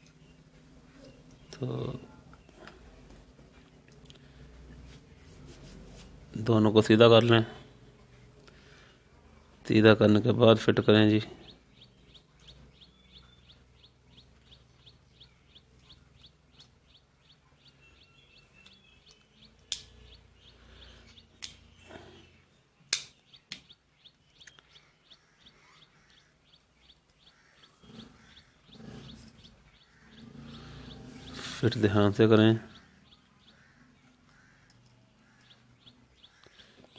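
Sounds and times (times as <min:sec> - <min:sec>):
bird chirping: 0:00.0 - 0:05.5, 0:07.2 - 0:36.9.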